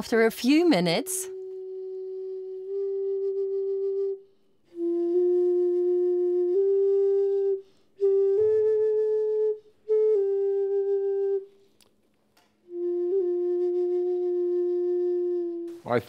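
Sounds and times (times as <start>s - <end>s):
ice flute long notes: 0.1s - 11.7s, 12.6s - 16.0s.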